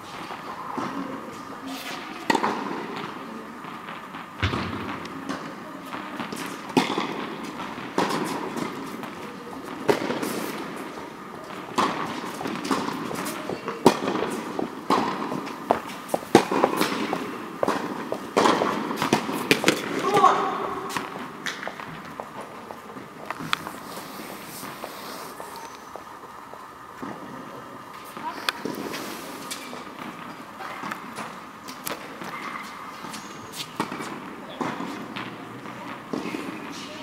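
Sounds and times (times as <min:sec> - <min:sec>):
tennis balls hit with rackets: 0:00.1 - 0:26.0, 0:27.0 - 0:37.0
tennis balls bouncing on court: 0:00.2 - 0:37.0.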